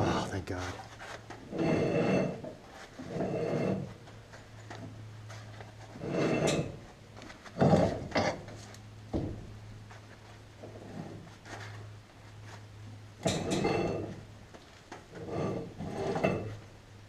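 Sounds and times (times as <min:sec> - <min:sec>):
suspension parts scraping and rubbing: 0:00.0 - 0:08.8, 0:09.8 - 0:16.7.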